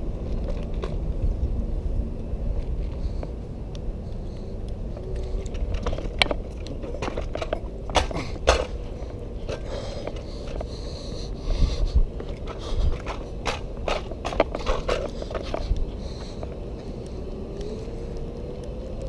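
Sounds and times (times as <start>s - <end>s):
low road rumble: 0.0s - 19.0s
scooter wheels clattering on paving: 0.0s - 19.0s.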